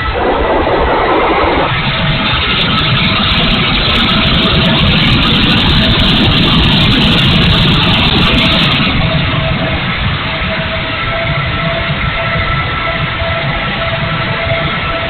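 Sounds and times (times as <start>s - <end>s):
electric ducted fans rushing: 0.0s - 15.0s.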